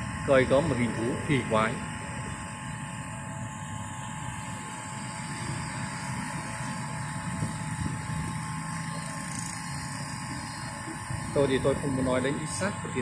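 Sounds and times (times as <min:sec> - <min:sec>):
low engine hum: 0:00.0 - 0:13.0
street traffic: 0:00.0 - 0:13.0.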